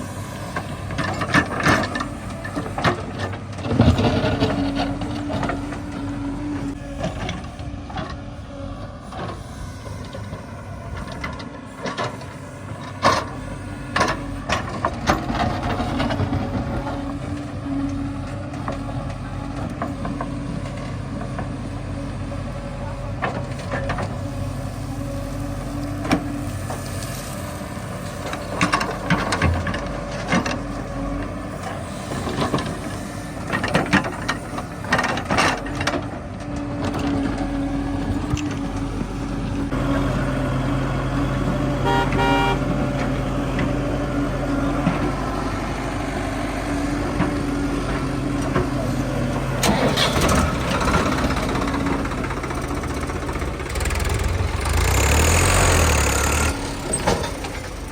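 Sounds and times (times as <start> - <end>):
heavy diesel engine running: 0.0 - 57.9.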